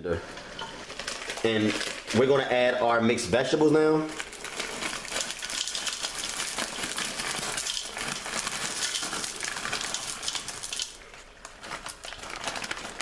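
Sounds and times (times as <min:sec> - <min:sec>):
frozen vegetables pouring into pot: 0:00.6 - 0:13.0.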